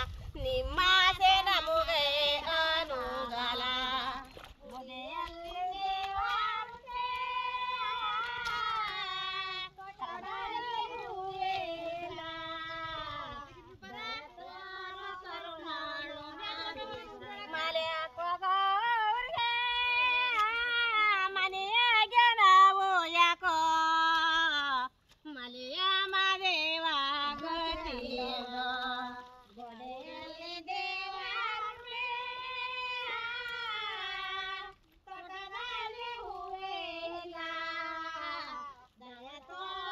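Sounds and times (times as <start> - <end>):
woman singing folk song: 0.0 - 39.9.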